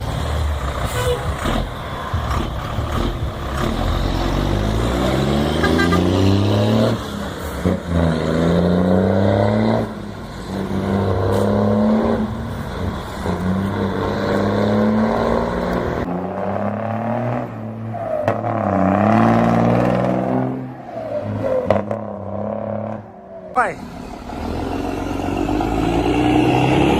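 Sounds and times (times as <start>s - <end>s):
truck diesel engine accelerating: 0.0s - 26.9s.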